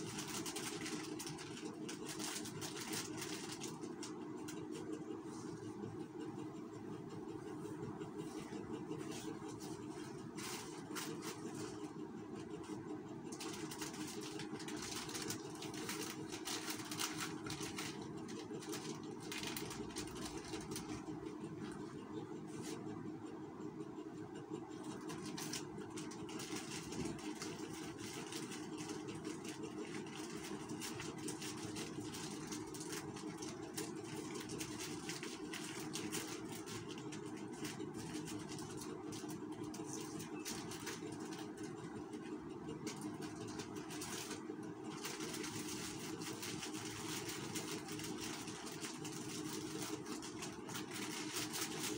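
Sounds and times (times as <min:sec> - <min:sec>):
plastic crinkling and rustling: 0:00.0 - 0:05.6, 0:08.3 - 0:11.9, 0:12.6 - 0:21.8, 0:24.8 - 0:51.9
steady mechanical hum: 0:00.0 - 0:51.9.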